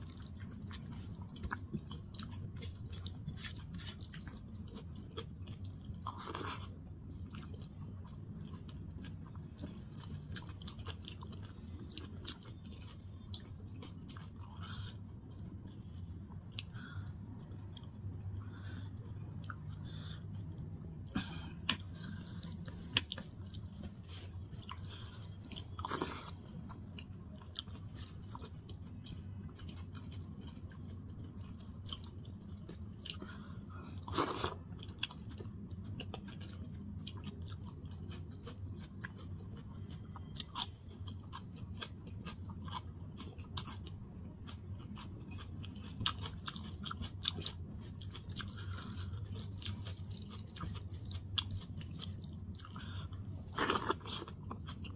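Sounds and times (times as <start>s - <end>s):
person chewing food: 0.0s - 54.9s
steady low hum: 0.0s - 54.9s.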